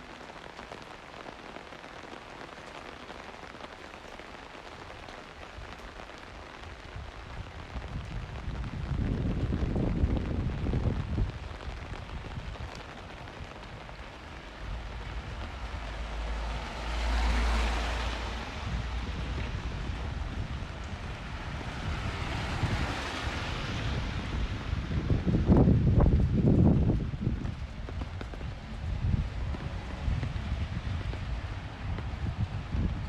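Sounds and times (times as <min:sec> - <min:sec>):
low rumble of traffic: 0:00.0 - 0:33.0
rain: 0:00.0 - 0:33.0
tyres hissing on wet road: 0:00.0 - 0:33.0.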